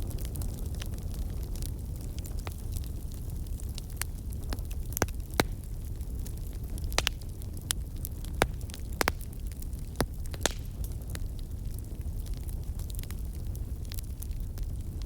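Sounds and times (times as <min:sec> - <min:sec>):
burning wood crackling: 0:00.0 - 0:15.0
fire low rumble: 0:00.0 - 0:15.0.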